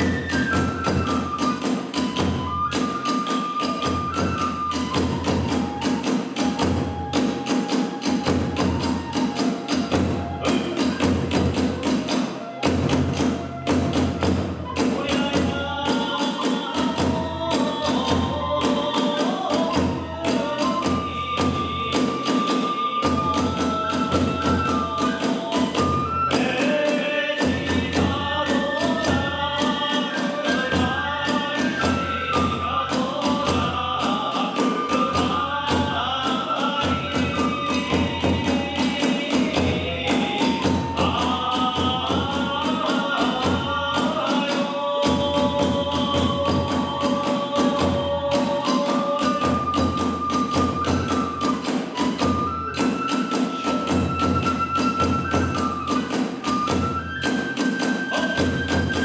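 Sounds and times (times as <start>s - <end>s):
taiko drums beating: 0.0s - 26.7s, 27.4s - 59.0s
bamboo flute melody: 0.0s - 59.0s.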